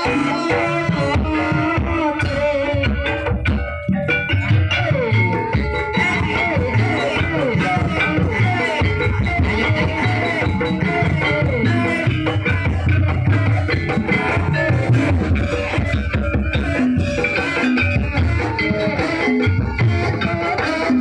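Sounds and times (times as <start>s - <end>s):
drums playing dense rhythm: 0.0s - 21.0s
gamelan ensemble playing: 0.0s - 21.0s.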